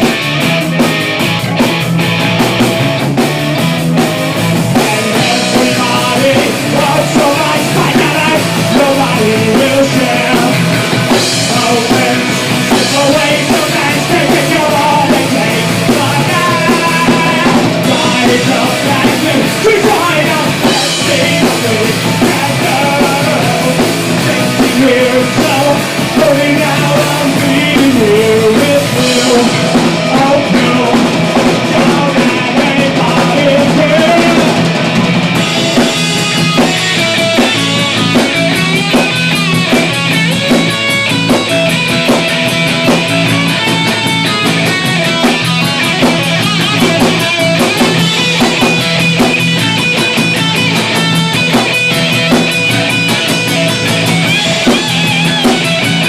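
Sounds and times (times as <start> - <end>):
punk rock band playing: 0.0 - 56.0
person singing: 4.5 - 56.0.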